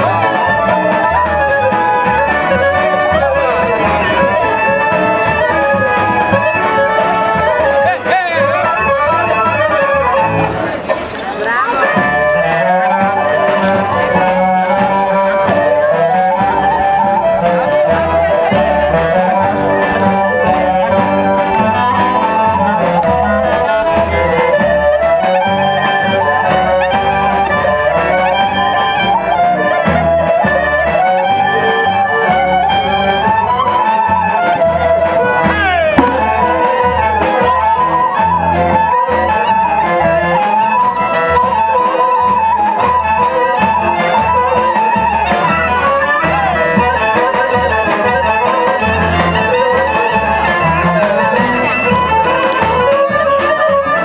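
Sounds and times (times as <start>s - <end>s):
double bass beat: 0.0s - 11.1s, 11.8s - 29.2s, 29.8s - 54.0s
accordions playing melody: 0.0s - 54.0s
wind instruments: 0.0s - 54.0s.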